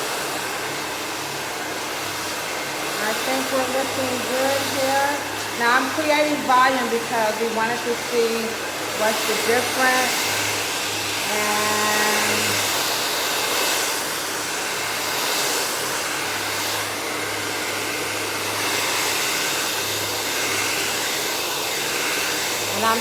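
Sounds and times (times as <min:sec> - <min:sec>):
blow dryer running: 0:00.0 - 0:23.0.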